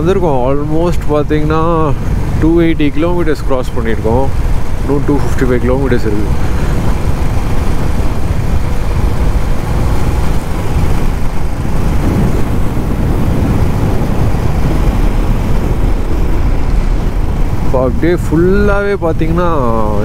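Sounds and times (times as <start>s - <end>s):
motorcycle engine rumble: 0.0s - 20.0s
road noise: 0.0s - 20.0s
wind buffeting microphone: 0.0s - 20.0s.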